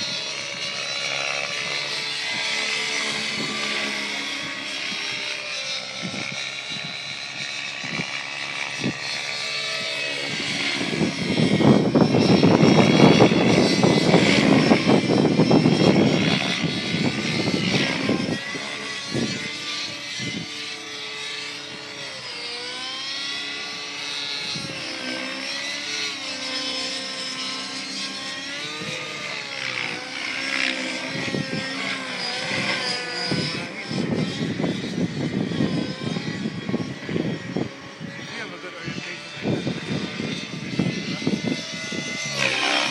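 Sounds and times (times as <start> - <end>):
model helicopter engine whine: 0.0 - 42.9
wind buffeting microphone: 0.0 - 42.9.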